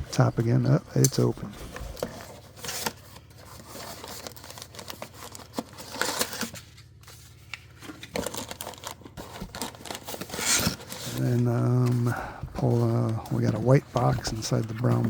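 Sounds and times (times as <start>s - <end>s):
crinkling and rustling of contents: 0.0s - 15.0s
cardboard box being opened: 1.3s - 15.0s.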